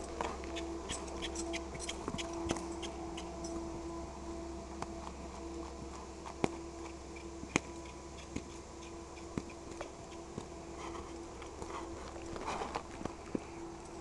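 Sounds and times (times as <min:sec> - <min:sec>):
faint hum: 0:00.0 - 0:14.0
horse hooves on sand: 0:00.0 - 0:14.0.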